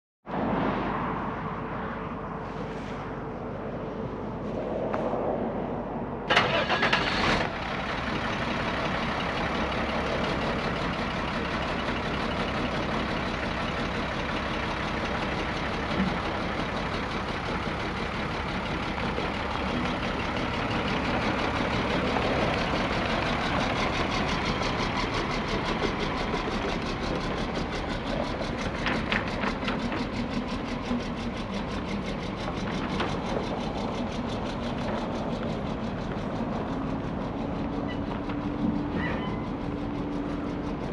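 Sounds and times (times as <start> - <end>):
truck engine idling and pulling away: 6.1 - 40.9.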